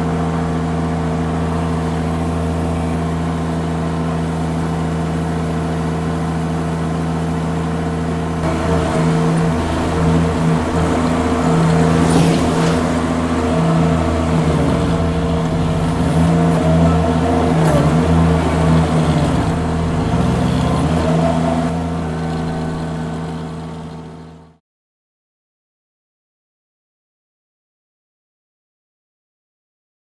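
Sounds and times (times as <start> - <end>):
mini skid steer engine running: 0.0 - 24.6.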